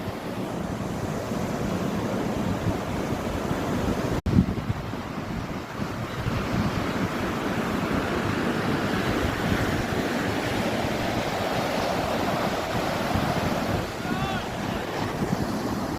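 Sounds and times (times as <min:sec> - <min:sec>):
sea surf washing on shore: 0:00.0 - 0:15.9
wind buffeting microphone: 0:00.1 - 0:15.9.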